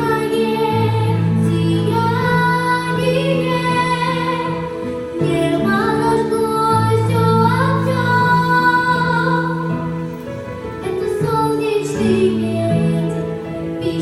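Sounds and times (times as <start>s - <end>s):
woman singing slow song: 0.0s - 10.0s, 10.8s - 14.0s.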